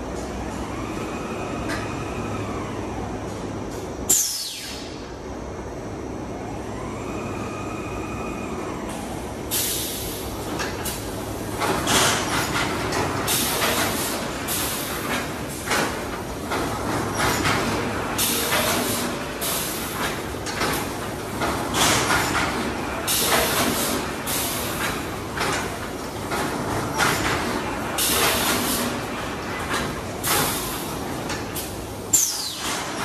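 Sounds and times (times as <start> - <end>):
machinery humming: 0.0 - 33.0.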